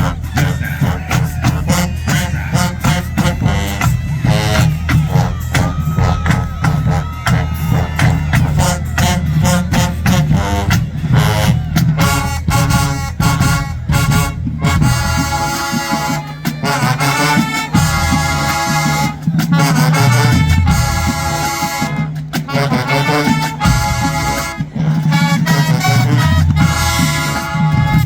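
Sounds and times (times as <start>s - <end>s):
brass chords: 0.0s - 28.0s
marching band drums: 0.0s - 28.0s.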